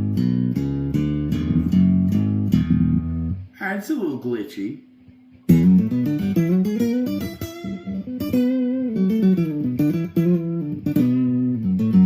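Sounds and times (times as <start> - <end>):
acoustic guitar plucked notes: 0.0 - 3.5, 5.0 - 12.0.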